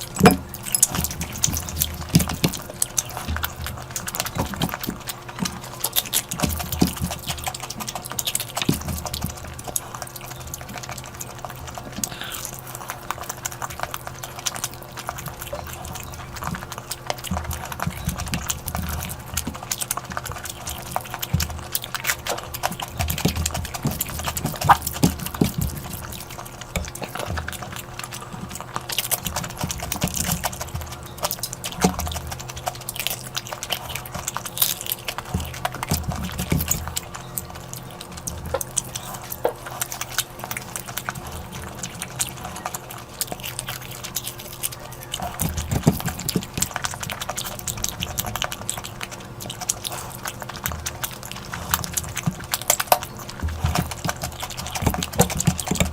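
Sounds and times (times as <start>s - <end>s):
wet chewing and lip smacking: 0.0s - 55.9s.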